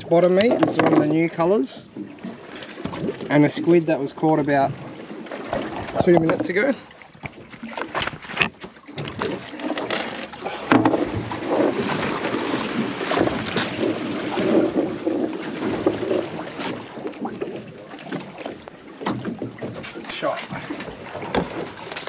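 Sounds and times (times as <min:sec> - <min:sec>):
rushing water and wind: 0:00.0 - 0:22.0.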